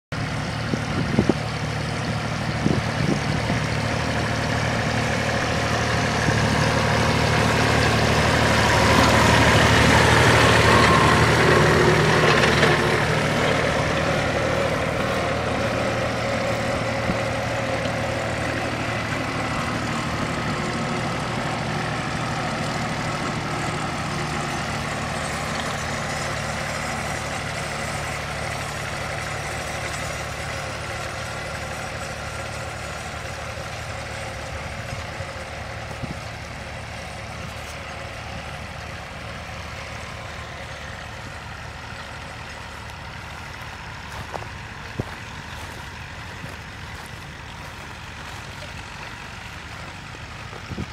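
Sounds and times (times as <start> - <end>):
tractor engine running: 0.1 - 50.9.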